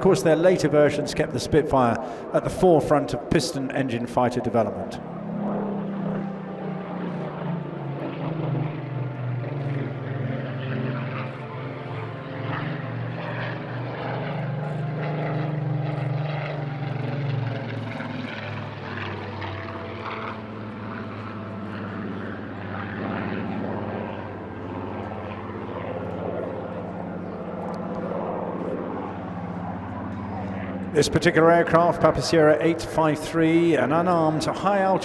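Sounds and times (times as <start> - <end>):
propeller aircraft engine: 0.0 - 35.0.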